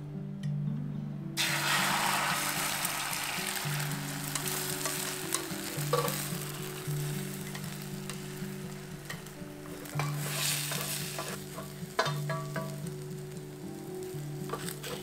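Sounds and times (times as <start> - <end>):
egg sizzling in a pan: 1.4 - 15.0
utensils tapping a pan: 2.9 - 15.0.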